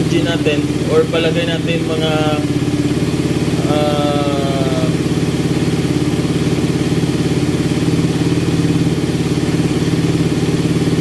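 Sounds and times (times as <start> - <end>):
motorcycle engine idling fast: 0.0 - 11.0.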